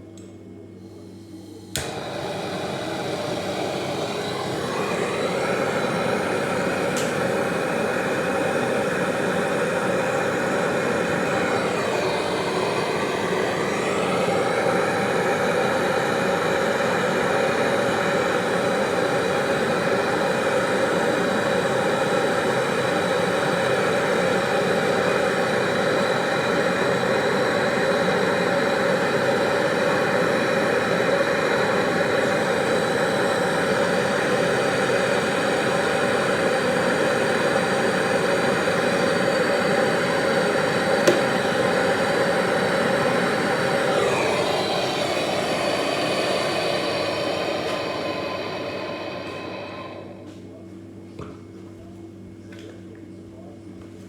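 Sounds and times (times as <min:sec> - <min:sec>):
machine running with noisy hum: 0:00.0 - 0:54.0.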